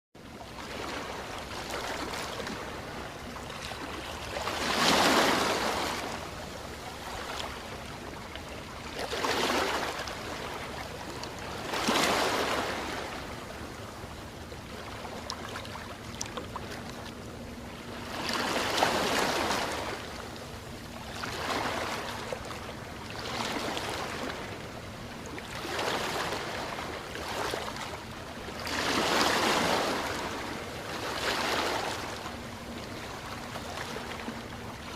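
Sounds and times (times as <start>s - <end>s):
sea waves breaking on beach: 0.4s - 34.9s.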